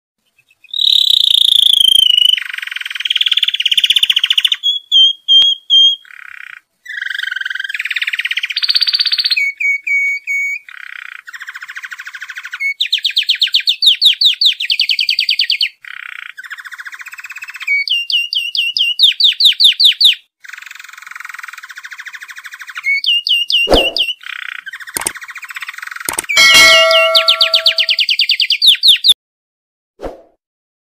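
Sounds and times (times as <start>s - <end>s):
canary singing trills: 0.2s - 29.2s.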